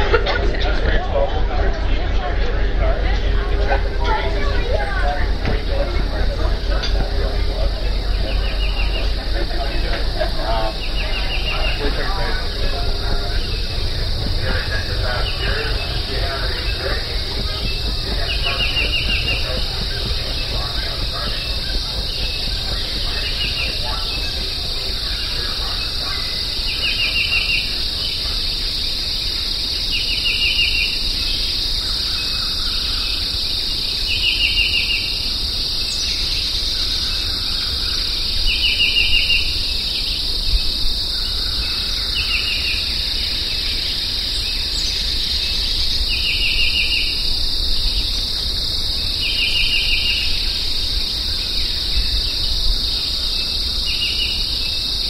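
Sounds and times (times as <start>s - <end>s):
high-pitched insect chorus: 2.3s - 55.0s
rapid trill of ticks: 3.2s - 55.0s.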